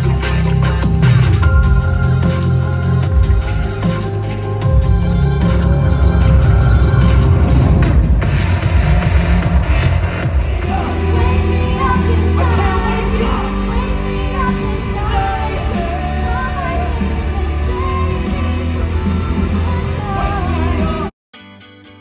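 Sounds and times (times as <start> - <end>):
pop music with singing: 0.0 - 21.1.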